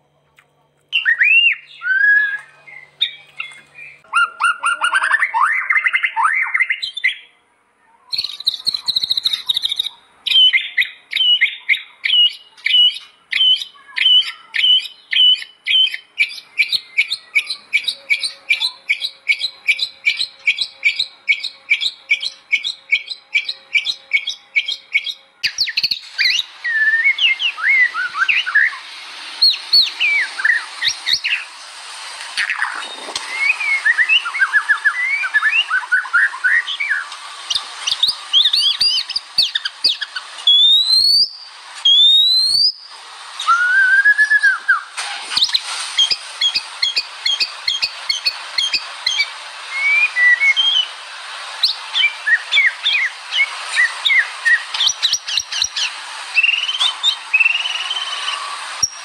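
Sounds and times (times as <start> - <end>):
hissy background: 0.0 - 5.4, 6.5 - 59.0
bird singing whistles and chatter: 0.9 - 7.3, 8.0 - 31.6, 32.4 - 50.9, 51.6 - 59.0.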